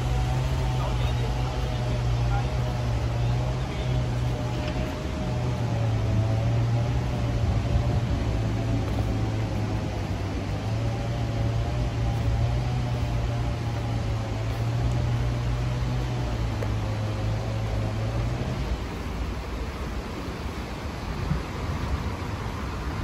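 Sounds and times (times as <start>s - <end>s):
low steady hum: 0.0s - 23.0s
river rapids rushing: 0.0s - 23.0s.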